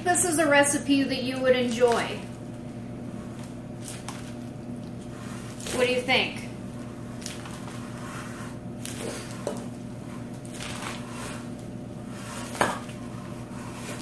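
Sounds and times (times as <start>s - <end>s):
pasta salad being mixed: 0.9s - 14.0s.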